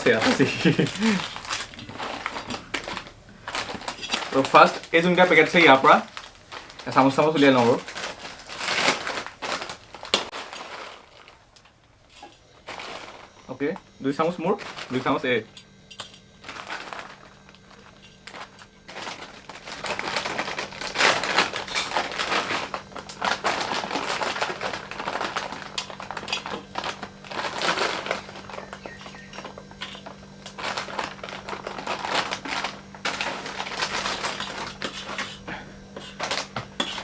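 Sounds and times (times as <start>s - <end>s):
plastic snack packets crinkling: 0.0s - 37.0s.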